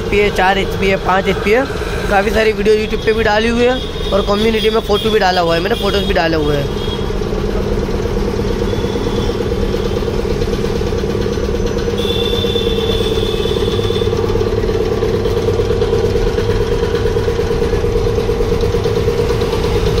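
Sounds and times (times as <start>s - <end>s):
air compressor pulsing: 0.0s - 20.0s.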